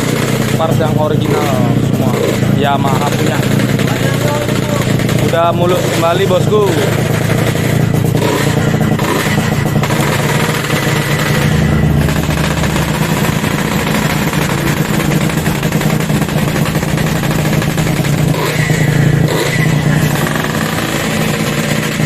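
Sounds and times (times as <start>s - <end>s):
two-stroke motorcycle engine running: 0.0s - 22.0s.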